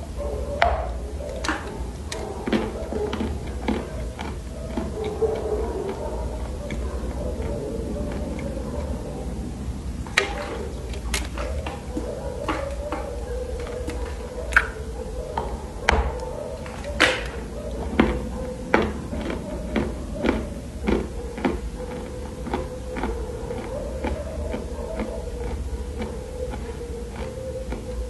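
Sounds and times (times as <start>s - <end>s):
clay being chewed: 0.6s - 9.0s, 10.1s - 14.8s, 15.4s - 28.0s.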